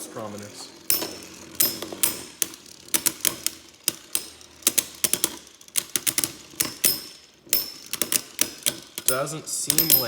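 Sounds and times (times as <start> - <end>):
spinning tops clashing: 0.8 - 10.0.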